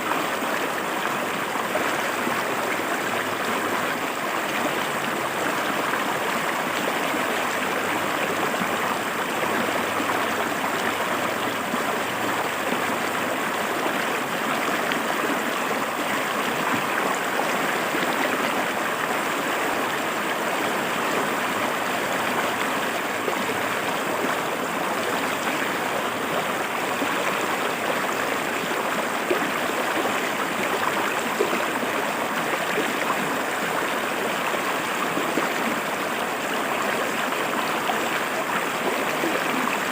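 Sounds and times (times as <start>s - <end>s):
river water splashing over rocks: 0.0s - 39.9s.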